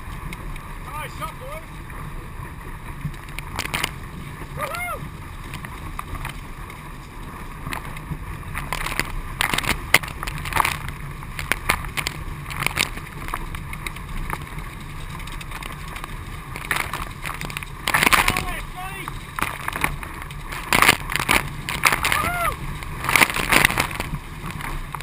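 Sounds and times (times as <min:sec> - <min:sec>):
paddle blades splashing water: 0:00.0 - 0:25.0
water rushing around skis: 0:00.0 - 0:25.0.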